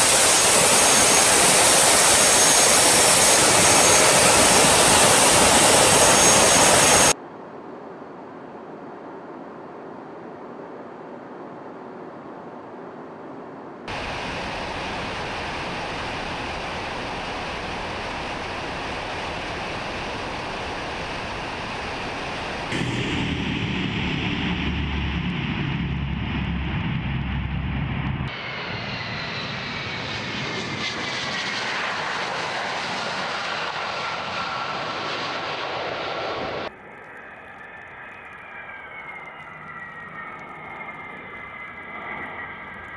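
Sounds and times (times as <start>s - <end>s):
jet engine rushing: 0.0s - 7.2s, 13.9s - 42.9s
jet engine low rumble: 0.0s - 42.9s
jet engine whine: 0.0s - 42.9s.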